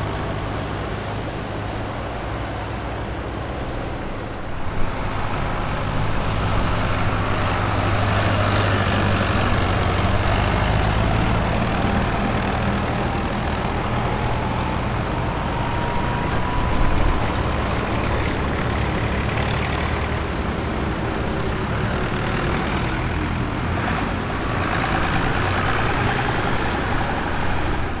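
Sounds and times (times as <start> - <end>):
tractor engines passing: 0.0 - 28.0.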